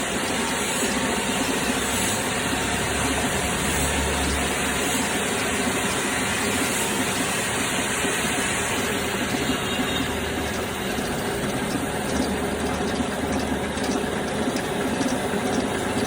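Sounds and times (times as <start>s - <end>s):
drilling machine hissing: 0.0s - 13.3s.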